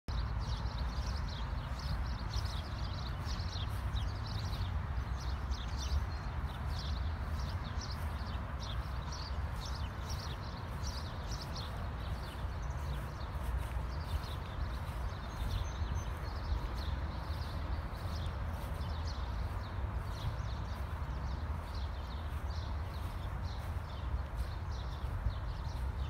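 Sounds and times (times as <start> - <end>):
many small birds chirping: 0.1 - 26.0.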